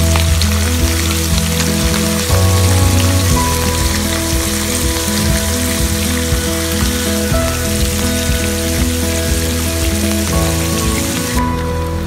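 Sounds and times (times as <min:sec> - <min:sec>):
background music with held notes: 0:00.0 - 0:12.0
fish sizzling in hot oil: 0:00.0 - 0:12.0.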